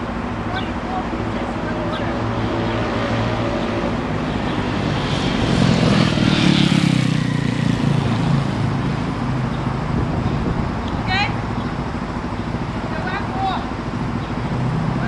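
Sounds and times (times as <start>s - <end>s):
scooter engine passing by: 1.6s - 15.0s.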